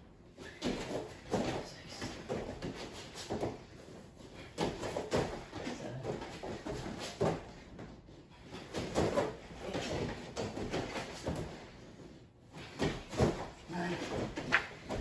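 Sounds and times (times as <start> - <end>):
thumps on foam exercise mats: 0.4 - 11.8, 12.5 - 15.0.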